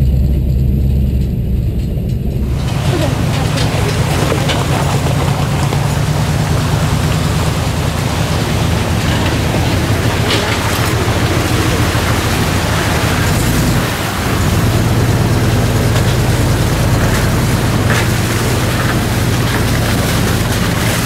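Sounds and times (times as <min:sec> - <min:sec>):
truck engine droning: 0:00.0 - 0:21.0
wheels rushing through mud: 0:02.2 - 0:21.0.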